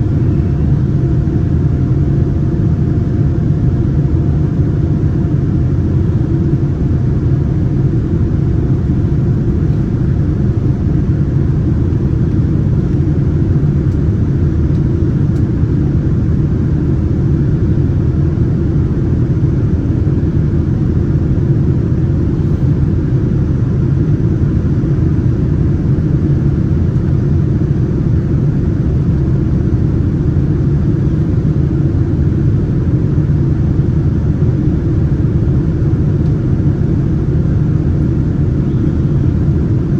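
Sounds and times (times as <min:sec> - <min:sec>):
low rumble of jet engines: 0:00.0 - 0:39.9.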